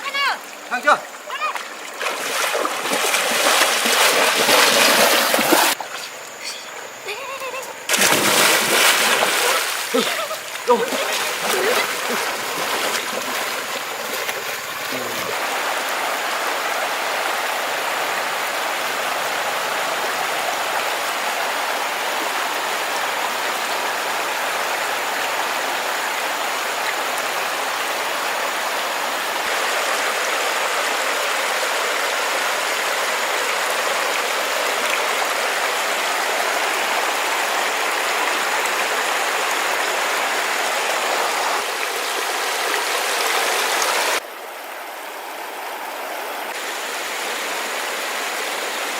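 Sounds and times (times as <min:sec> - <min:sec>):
water flowing: 0:00.0 - 0:48.9.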